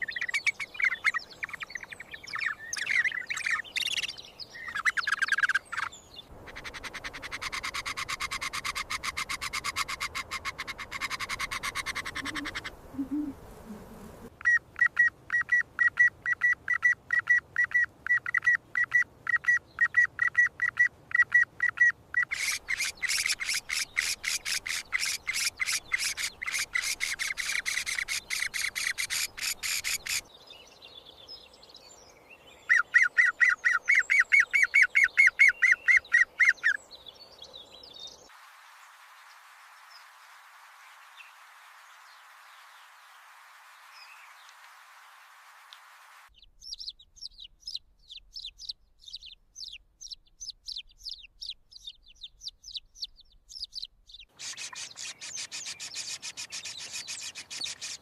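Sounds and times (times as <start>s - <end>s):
birds chirping: 0.0s - 38.4s, 46.3s - 58.0s.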